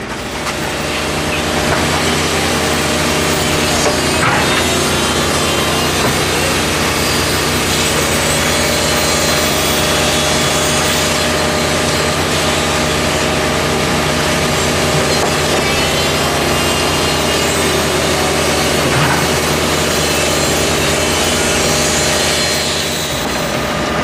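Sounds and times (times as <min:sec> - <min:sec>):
construction machine engine running: 0:00.0 - 0:24.0
harsh continuous scraping: 0:00.0 - 0:24.0.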